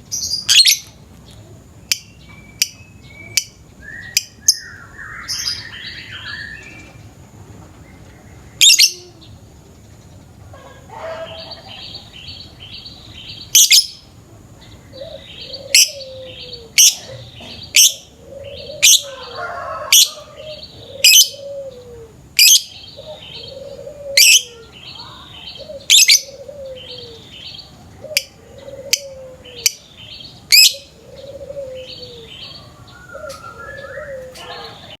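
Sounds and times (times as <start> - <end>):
lovebirds trilling: 0.0 - 35.0.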